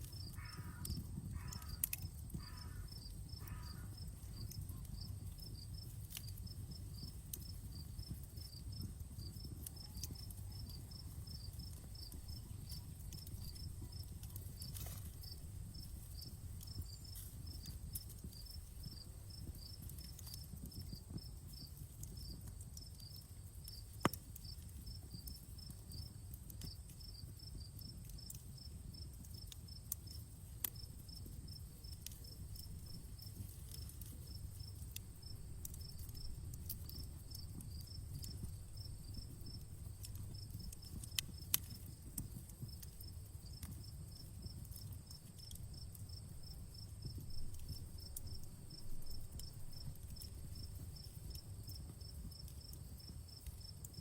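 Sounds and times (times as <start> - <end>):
crickets chirping: 0.0 - 22.4, 27.0 - 54.0
campfire crackling: 0.0 - 54.0.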